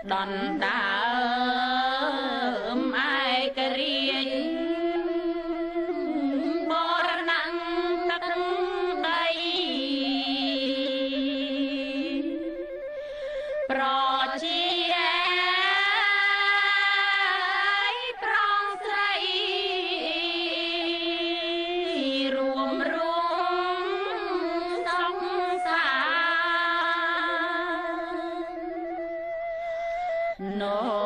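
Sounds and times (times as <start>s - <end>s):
person singing wavering notes: 0.0s - 31.0s.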